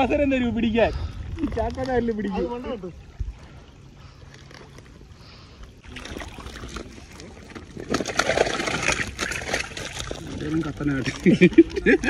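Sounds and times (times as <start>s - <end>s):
water sloshing and splashing: 0.7s - 12.0s.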